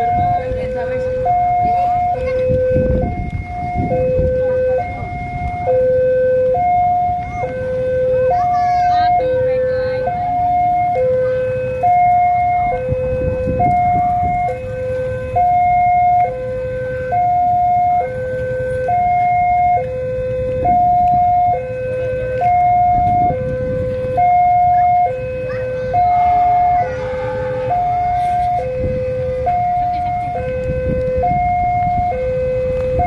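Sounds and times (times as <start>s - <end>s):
road traffic rumbling: 0.0s - 33.0s
two-tone warning siren wail: 0.0s - 33.0s.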